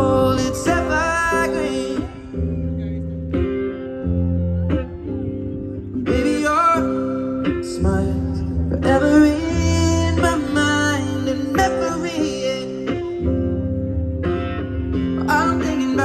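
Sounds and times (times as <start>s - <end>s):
person singing: 0.0s - 13.6s, 15.1s - 16.0s
amplified guitar: 0.0s - 16.0s
bass: 0.0s - 16.0s.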